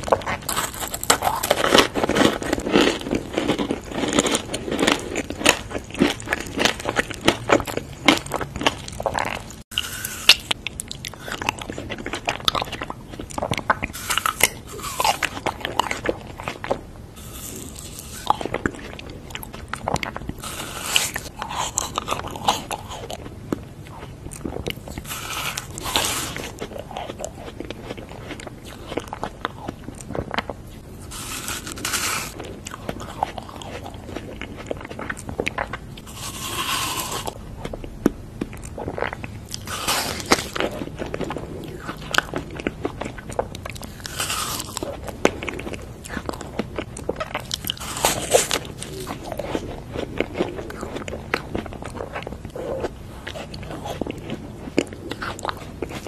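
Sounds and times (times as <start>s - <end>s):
chewing crackle: 0.0s - 56.0s.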